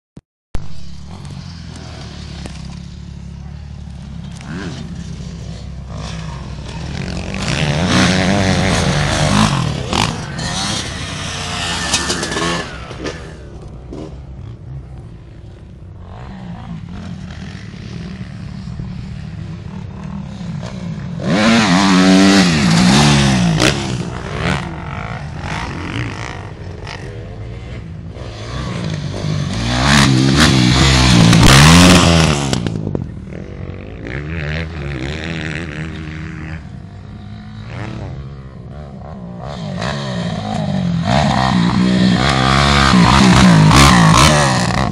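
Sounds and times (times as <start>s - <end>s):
dirt bike engines revving: 0.6s - 44.9s.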